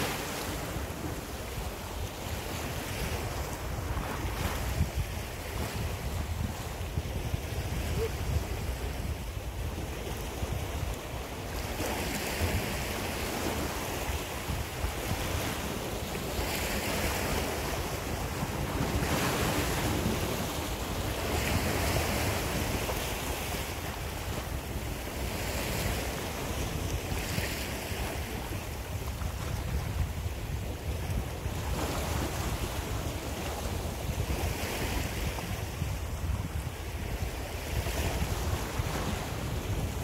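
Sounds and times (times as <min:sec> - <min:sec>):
waves breaking on rocky shore: 0:00.0 - 0:40.0
wind rumble on microphone: 0:00.0 - 0:40.0.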